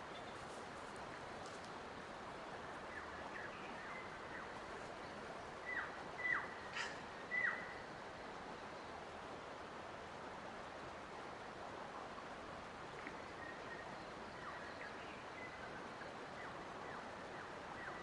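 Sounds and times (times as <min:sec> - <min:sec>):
forest ambience: 0:00.0 - 0:18.0.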